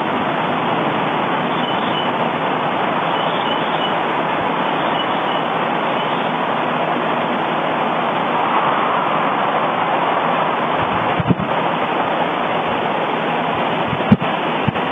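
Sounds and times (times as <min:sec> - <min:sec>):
volcano rushing noise: 0:00.0 - 0:14.9.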